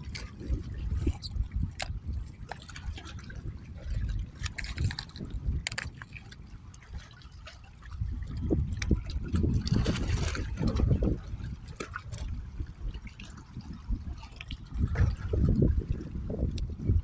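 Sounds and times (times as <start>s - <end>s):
water sloshing and trickling: 0.0s - 17.0s.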